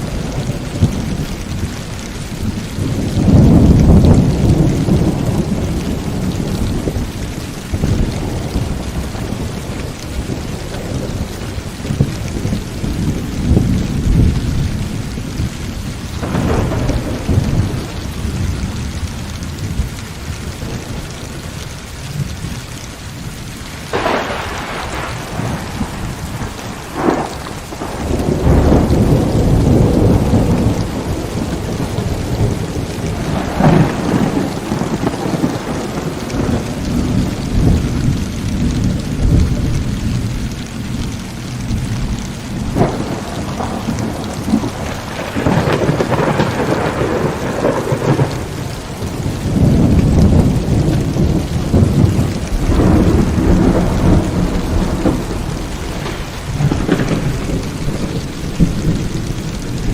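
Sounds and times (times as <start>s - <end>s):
heavy rain: 0.0s - 59.9s
rumbling thunder: 0.0s - 59.9s
sharp thunder cracks: 2.4s - 15.4s, 16.2s - 21.4s, 23.9s - 40.4s, 41.8s - 59.9s.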